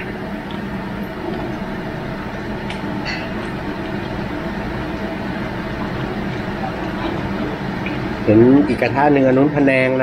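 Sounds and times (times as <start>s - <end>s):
low rumbling noise: 0.0s - 9.9s.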